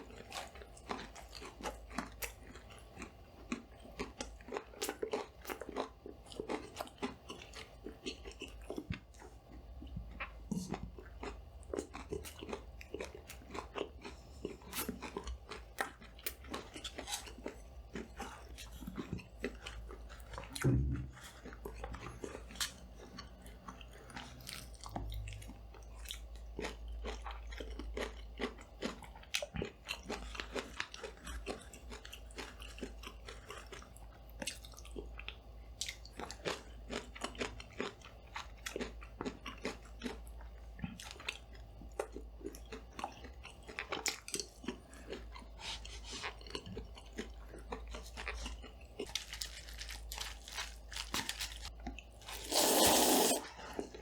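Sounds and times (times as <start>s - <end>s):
crunchy bites and chewing: 0.0s - 9.1s, 10.1s - 35.2s, 35.8s - 54.0s.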